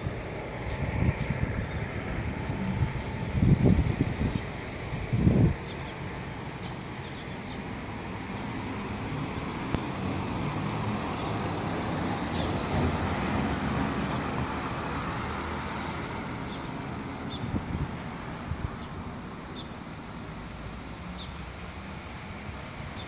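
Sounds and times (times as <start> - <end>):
passing vehicle: 0.0 - 23.0.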